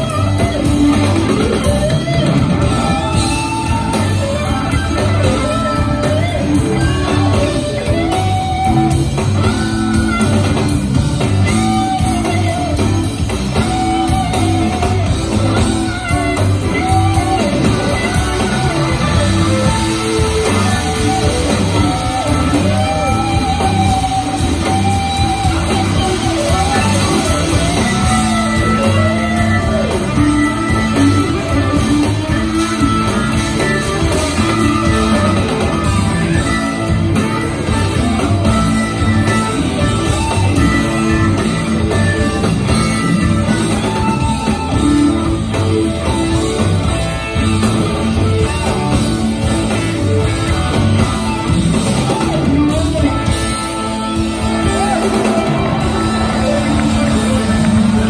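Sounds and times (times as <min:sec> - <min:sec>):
electric guitar lead bending: 0:00.0 - 0:58.0
live rock band playing: 0:00.0 - 0:58.0.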